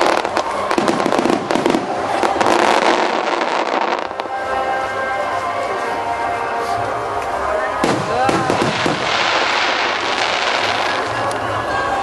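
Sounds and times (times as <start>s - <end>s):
fireworks bangs and crackling: 0.0s - 12.0s
music: 0.0s - 12.0s.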